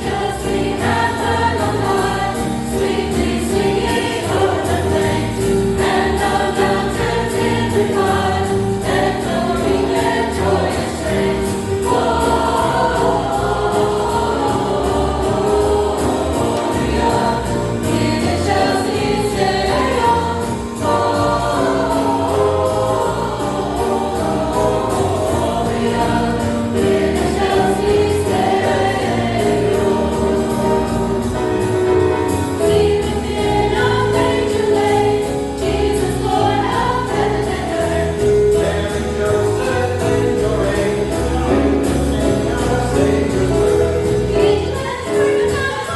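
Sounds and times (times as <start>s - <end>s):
band accompaniment: 0.0s - 45.9s
choir singing gospel: 0.0s - 45.9s.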